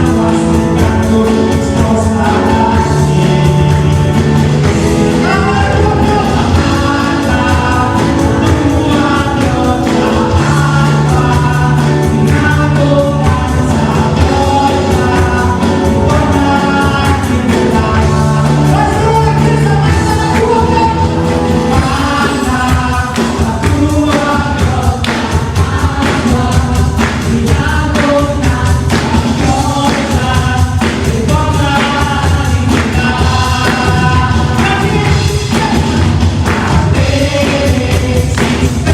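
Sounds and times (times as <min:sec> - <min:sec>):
band playing steady beat: 0:00.0 - 0:38.9
group singing: 0:00.0 - 0:38.9.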